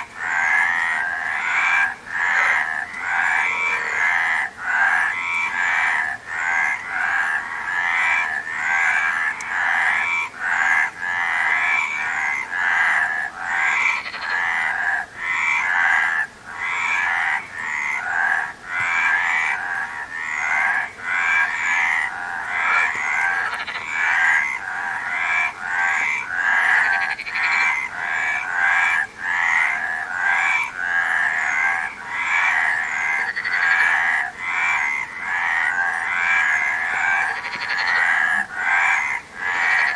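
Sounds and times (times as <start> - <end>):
frogs croaking in chorus: 0.0 - 39.9.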